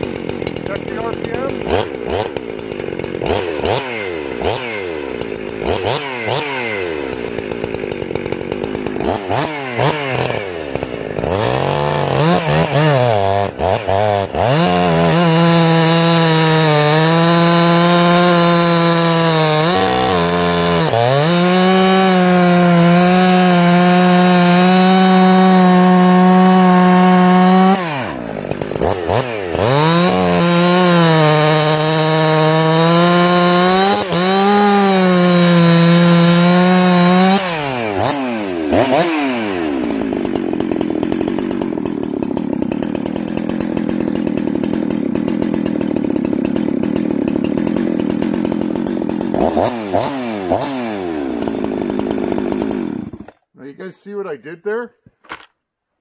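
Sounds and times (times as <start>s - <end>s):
chainsaw cutting log: 0.0s - 55.6s.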